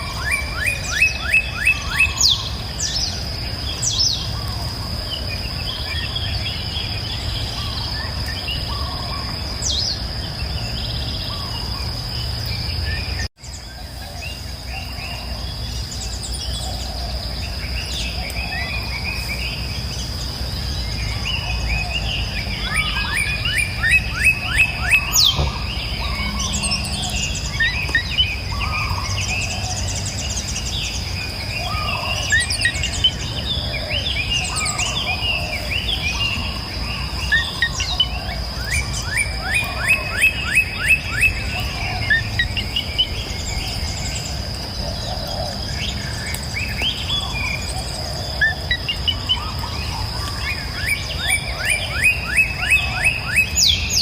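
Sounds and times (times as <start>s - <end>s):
high insect drone: 0.0s - 54.0s
songbirds chirping and singing: 0.0s - 54.0s.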